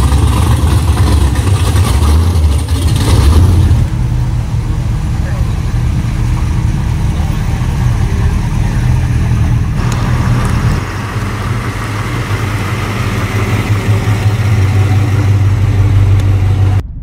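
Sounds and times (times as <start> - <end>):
car engines driving slowly past: 0.0 - 17.0.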